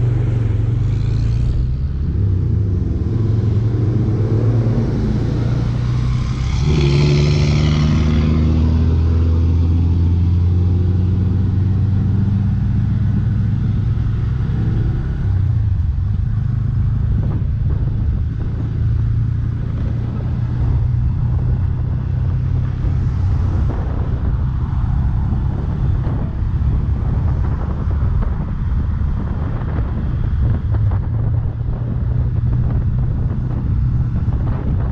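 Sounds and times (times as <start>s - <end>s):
road noise: 0.0s - 34.9s
wind noise on microphone: 0.0s - 34.9s.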